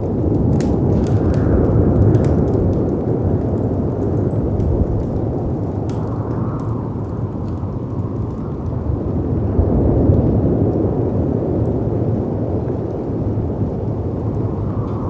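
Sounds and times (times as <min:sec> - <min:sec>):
fireplace crackles: 0:00.0 - 0:15.0
storm wind: 0:00.0 - 0:15.0.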